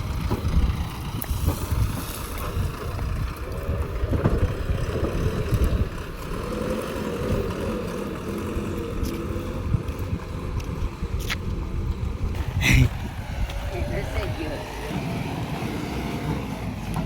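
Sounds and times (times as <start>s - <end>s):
diesel engine rumbling under load: 0.0s - 17.0s.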